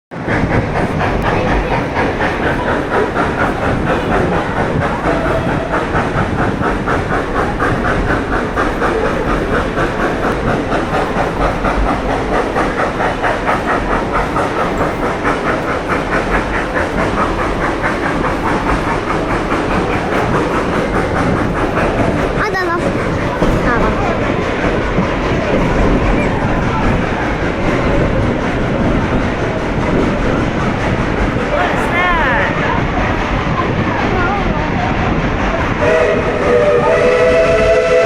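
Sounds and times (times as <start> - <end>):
train running rhythmic rushing: 0.1 - 38.0.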